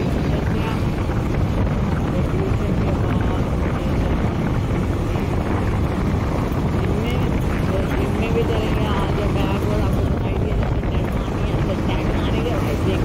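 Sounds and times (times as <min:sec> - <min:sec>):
motorcycle engine and road noise: 0:00.0 - 0:13.0
wind rushing over microphone: 0:00.0 - 0:13.0.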